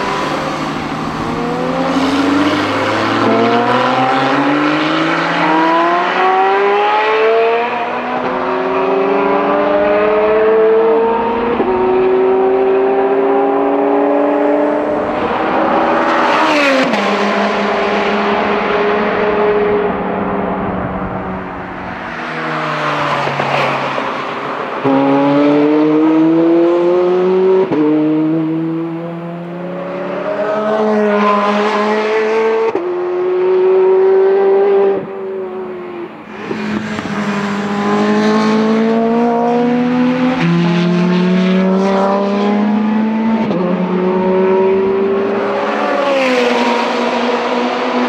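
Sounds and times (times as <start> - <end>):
sports car engine accelerating: 0.0 - 23.4, 24.8 - 31.0, 36.3 - 48.0.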